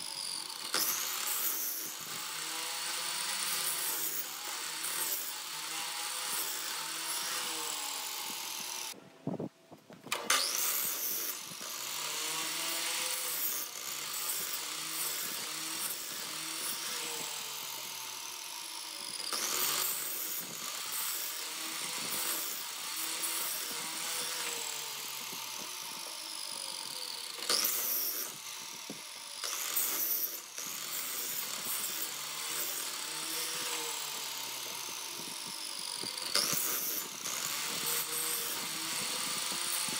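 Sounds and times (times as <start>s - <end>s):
miter saw whining: 0.0s - 9.0s, 10.1s - 39.9s
saw blade cutting wood: 0.0s - 9.0s, 10.1s - 39.9s.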